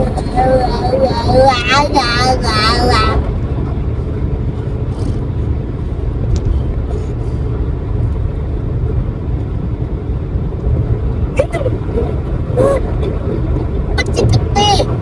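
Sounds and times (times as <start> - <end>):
car engine rumble: 0.0 - 15.0
tyre road noise: 0.0 - 15.0.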